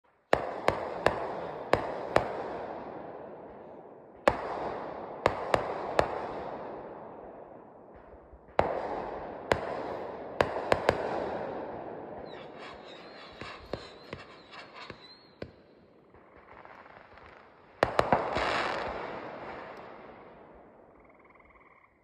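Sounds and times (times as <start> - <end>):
fireworks sharp bangs: 0.1 - 21.0
rolling echo of fireworks: 0.1 - 21.5.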